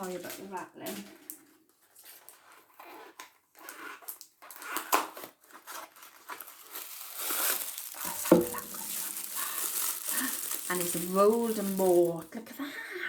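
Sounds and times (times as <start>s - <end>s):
plastic packet crinkling and tearing: 0.0s - 12.5s.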